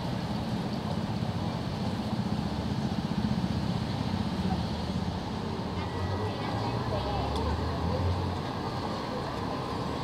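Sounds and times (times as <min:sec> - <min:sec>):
buses and cars idling: 0:00.0 - 0:10.0
vehicle engines rumbling: 0:00.0 - 0:10.0.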